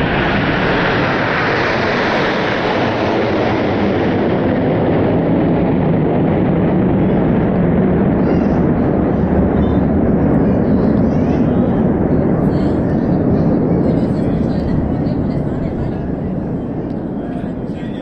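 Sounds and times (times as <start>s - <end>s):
jets passing overhead: 0.0s - 18.0s.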